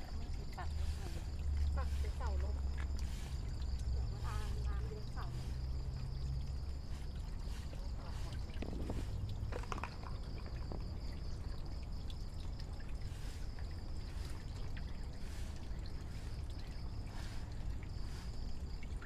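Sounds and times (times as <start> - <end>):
water trickling into a tank: 0.0 - 19.0.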